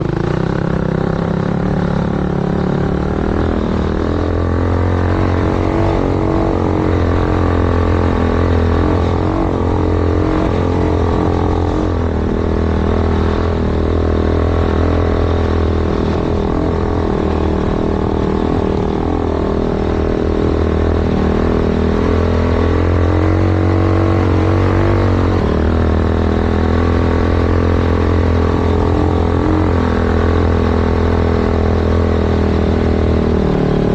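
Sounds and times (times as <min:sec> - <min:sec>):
quad engine revving: 0:00.0 - 0:33.9.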